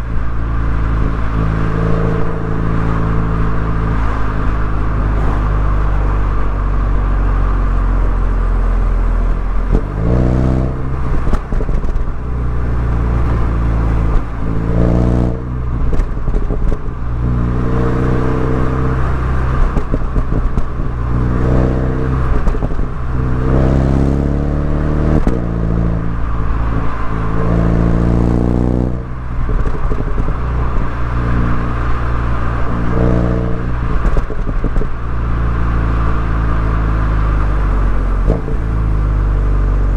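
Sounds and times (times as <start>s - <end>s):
car exhaust revving: 0.0s - 39.9s
road noise: 0.0s - 39.9s.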